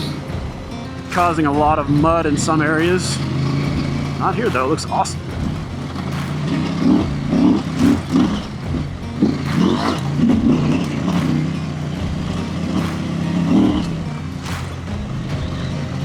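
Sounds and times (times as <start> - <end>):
motorcycle engine revving: 0.0 - 16.0
sharp knocks: 0.0 - 16.0.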